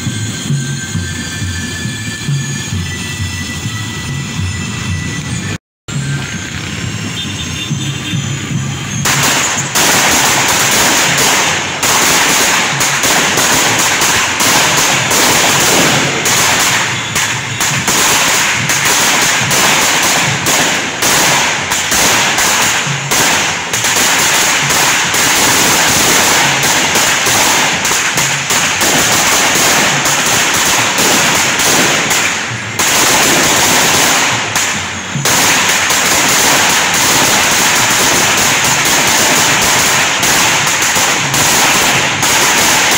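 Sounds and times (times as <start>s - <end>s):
firecrackers exploding rapidly: 5.3s - 42.9s.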